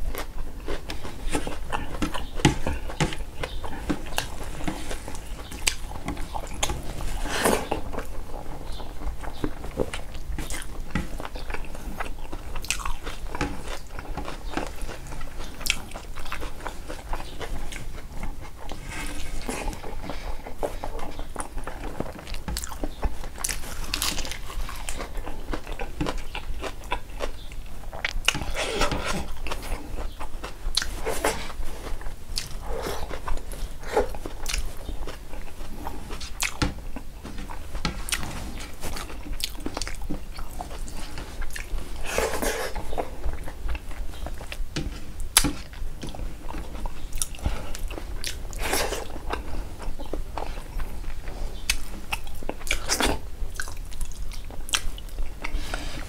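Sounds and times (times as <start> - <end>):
man chewing food: 0.0 - 56.0.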